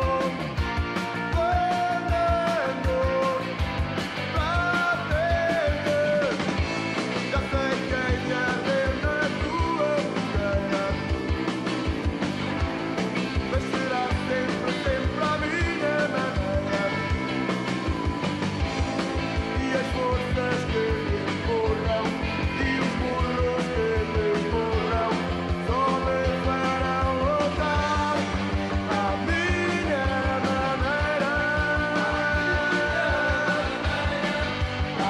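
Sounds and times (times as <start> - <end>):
man singing: 0.0 - 3.6, 4.2 - 11.9, 13.4 - 17.6, 19.1 - 35.0
electric guitars and bass: 0.0 - 35.0
fast drum beat: 0.0 - 35.0.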